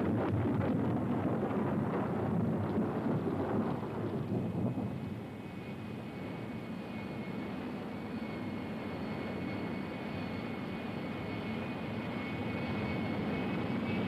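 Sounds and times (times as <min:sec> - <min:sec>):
droning flying saucer hum: 0:00.0 - 0:14.0
faint high whine: 0:00.0 - 0:14.0.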